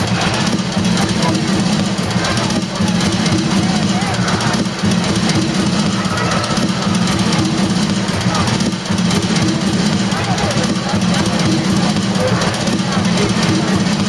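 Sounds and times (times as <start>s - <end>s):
loud music: 0.0s - 14.0s
voices: 0.0s - 14.0s.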